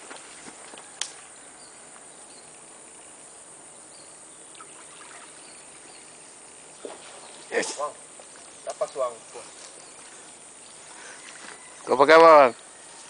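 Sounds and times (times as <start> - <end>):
insects hissing: 0.0 - 13.0.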